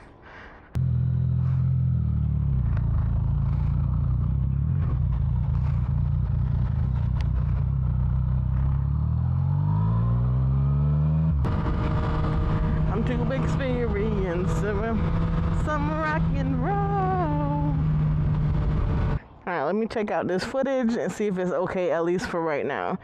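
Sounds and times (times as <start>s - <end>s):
motorcycle engine revving: 0.8s - 19.2s.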